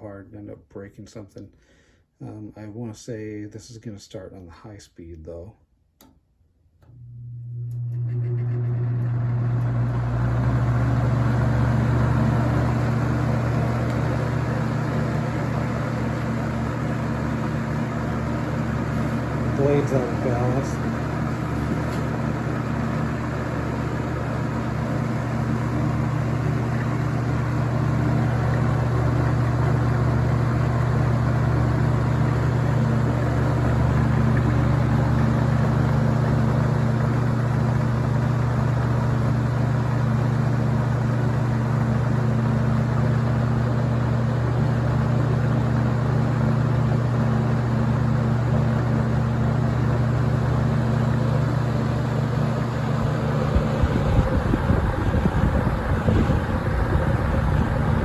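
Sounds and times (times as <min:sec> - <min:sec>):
box fan running: 0:06.8 - 0:58.0.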